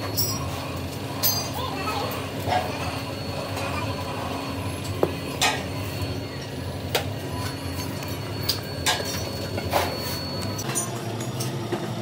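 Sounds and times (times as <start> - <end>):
high machine whine: 0.0 - 12.0
workshop machinery humming: 0.0 - 12.0.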